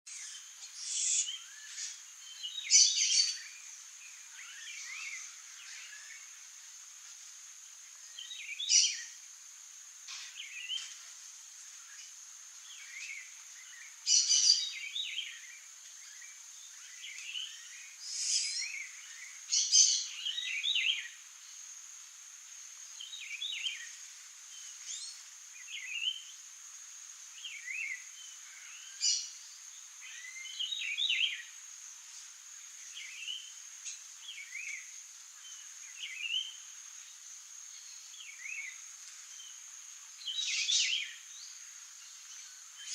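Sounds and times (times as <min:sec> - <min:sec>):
small songbirds chirping: 0:00.0 - 0:42.9.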